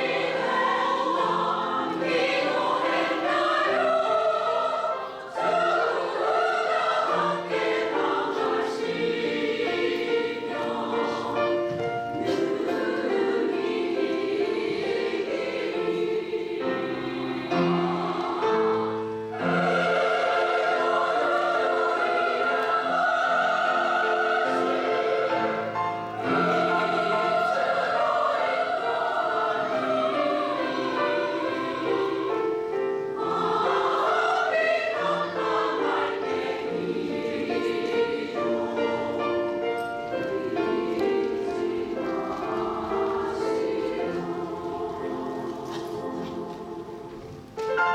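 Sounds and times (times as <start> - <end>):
women's choir singing: 0.0 - 47.9.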